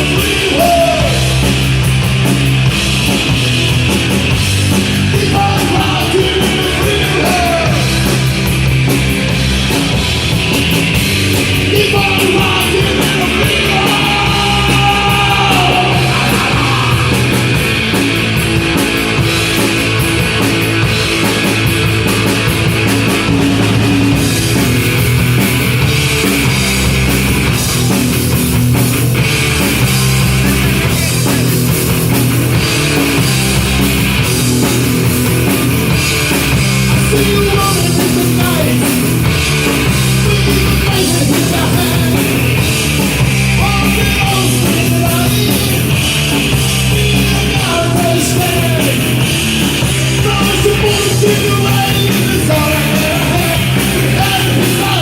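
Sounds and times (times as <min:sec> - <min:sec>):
drum kit: 0:00.0 - 0:55.0
punk rock band playing: 0:00.0 - 0:55.0.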